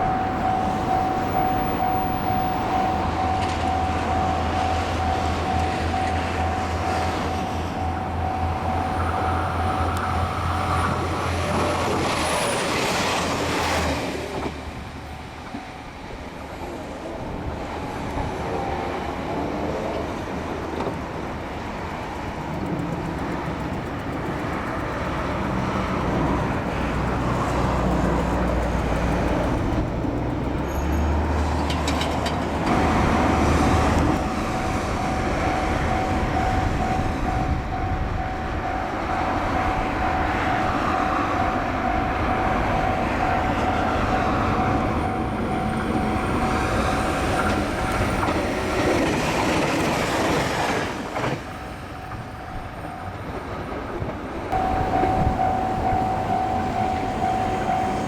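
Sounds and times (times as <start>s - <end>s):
level crossing warning bell: 0.0s - 14.1s, 14.9s - 17.0s, 21.3s - 49.6s, 54.5s - 58.0s
passing vehicles rumble: 0.0s - 51.5s, 52.2s - 58.0s.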